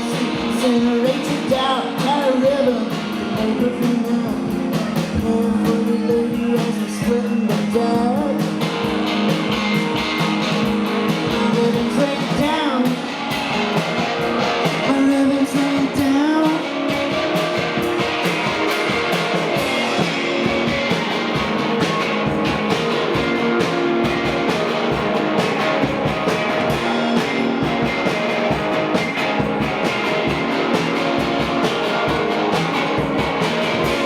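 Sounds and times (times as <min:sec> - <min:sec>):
drum beat: 0:00.0 - 0:34.0
electric guitars: 0:00.0 - 0:34.0.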